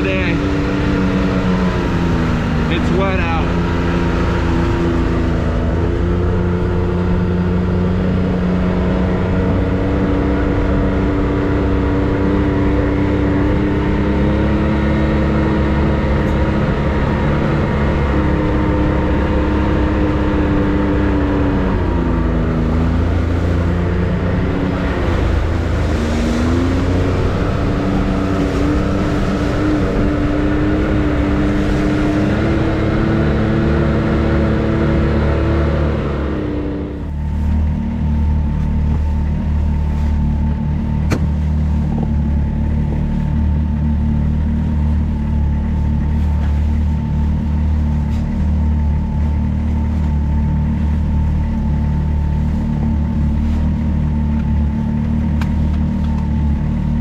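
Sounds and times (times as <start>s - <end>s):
side-by-side engine running: 0.0s - 57.0s.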